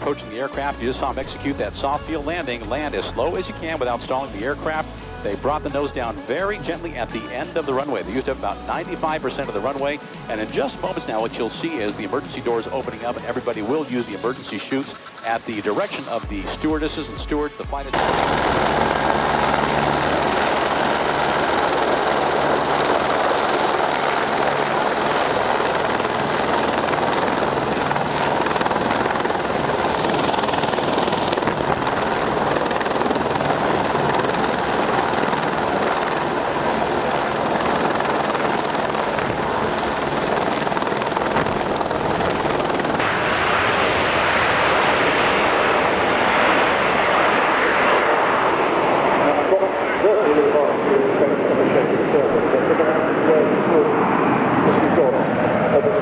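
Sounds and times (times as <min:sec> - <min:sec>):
aircraft engine noise: 0:00.0 - 0:56.0.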